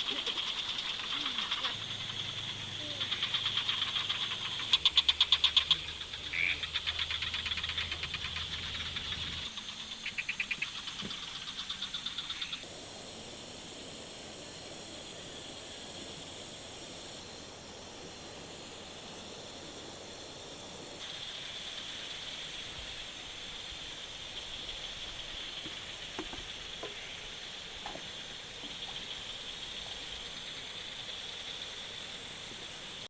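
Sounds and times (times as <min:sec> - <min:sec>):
frogs trilling: 0:00.0 - 0:33.0
insects buzzing: 0:00.0 - 0:33.0
steady hiss: 0:00.0 - 0:33.0.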